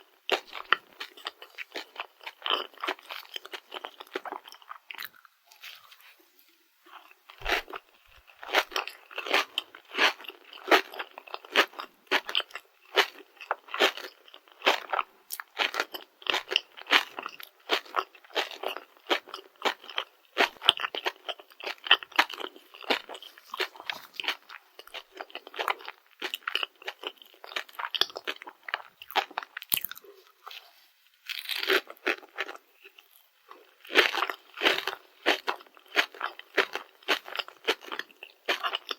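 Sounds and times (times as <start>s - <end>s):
crunching and chewing: 0.0s - 6.2s, 6.9s - 38.9s.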